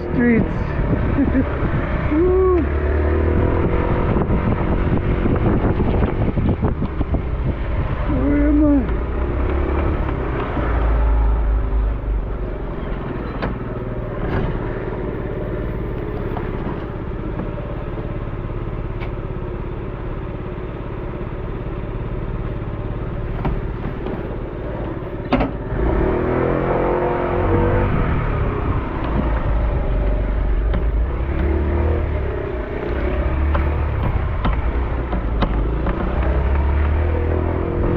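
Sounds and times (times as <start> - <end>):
road and wind noise: 0.0 - 37.9.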